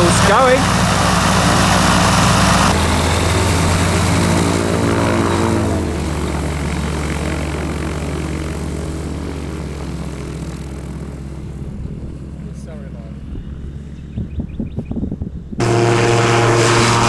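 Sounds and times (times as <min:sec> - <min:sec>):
two-stroke engine and propeller: 0:00.0 - 0:17.0.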